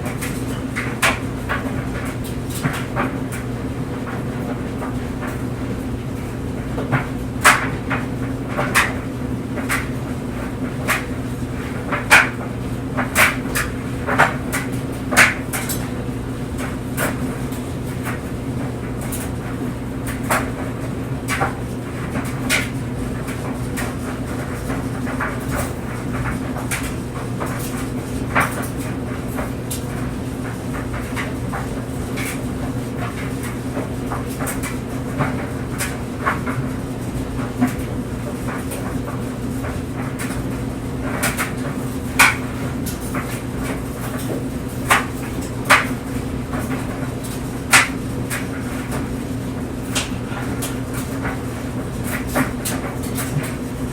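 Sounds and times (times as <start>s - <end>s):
clothes dryer humming: 0.0s - 53.9s
clothes knocking in dryer drum: 0.0s - 53.9s.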